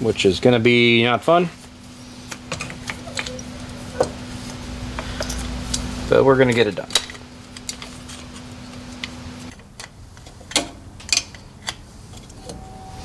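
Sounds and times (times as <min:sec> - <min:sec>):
steady low hum: 0:00.0 - 0:10.3, 0:10.9 - 0:13.0.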